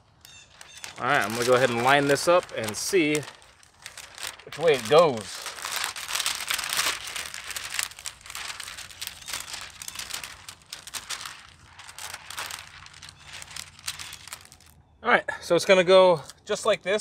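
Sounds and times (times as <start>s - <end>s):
plastic film crinkling: 0.0s - 14.8s.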